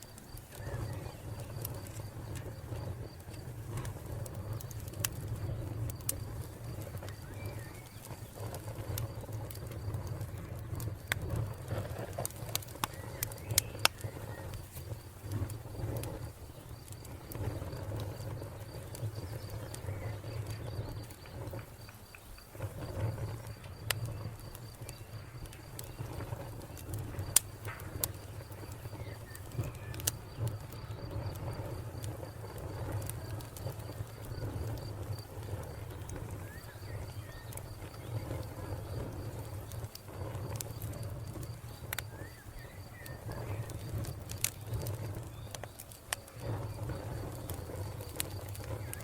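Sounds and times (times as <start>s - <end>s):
cricket chirping: 0.0s - 49.0s
wood fire crackling: 0.0s - 49.0s.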